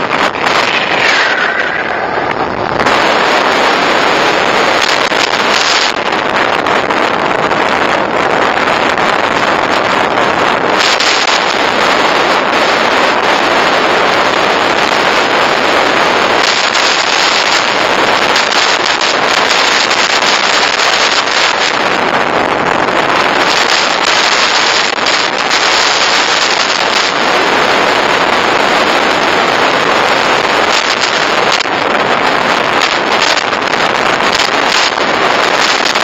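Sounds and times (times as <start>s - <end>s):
road and engine noise: 0.0s - 36.0s
wind buffeting microphone: 0.0s - 36.0s.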